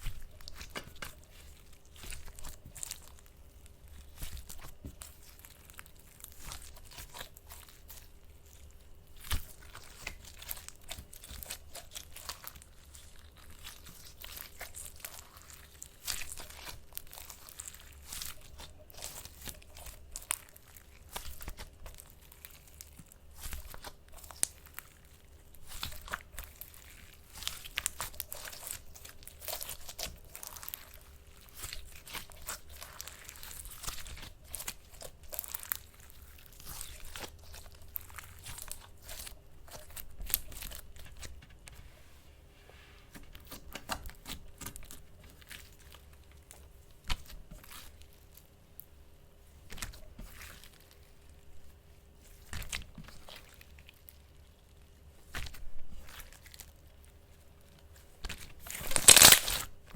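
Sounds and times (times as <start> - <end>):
slime crackling and popping: 0.0 - 41.7, 43.3 - 48.9, 52.2 - 59.9.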